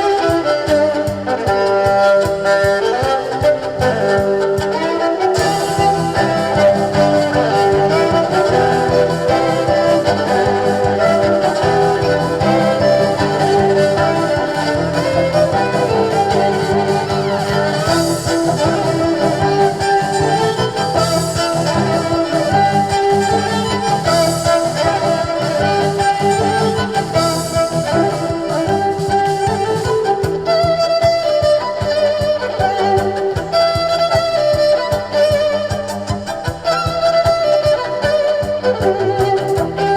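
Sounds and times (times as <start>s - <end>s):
live band playing instrumental: 0.0s - 39.9s
wavering lead melody: 0.0s - 39.9s.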